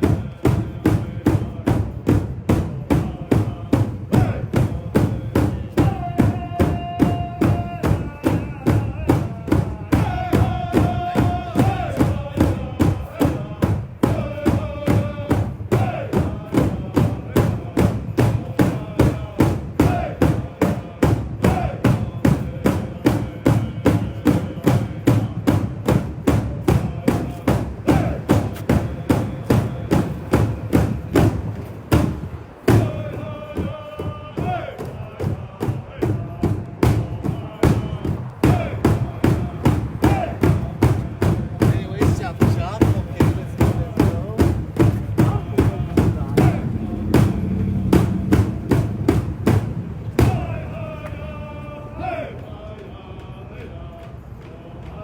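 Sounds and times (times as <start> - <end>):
drum beaten steadily: 0.0 - 50.8.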